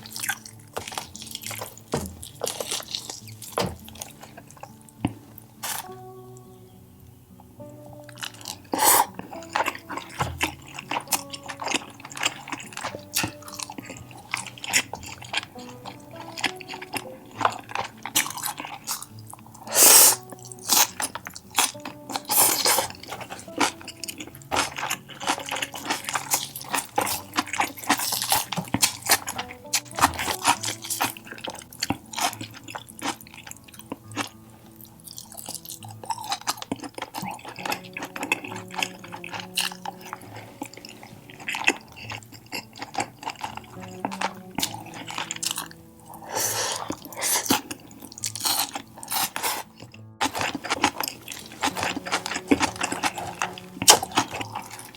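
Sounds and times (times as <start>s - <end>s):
chewing and crunching food: 0.0s - 54.9s
soft background music: 0.0s - 54.9s.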